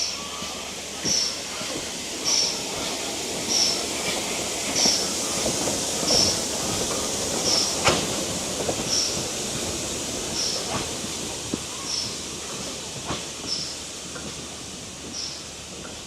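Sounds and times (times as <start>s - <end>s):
train running on track: 0.0s - 16.0s.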